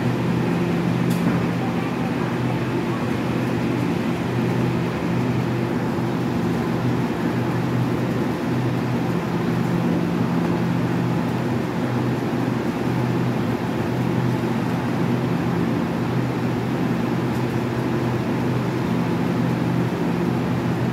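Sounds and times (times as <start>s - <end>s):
train electric hum: 0.0s - 20.9s.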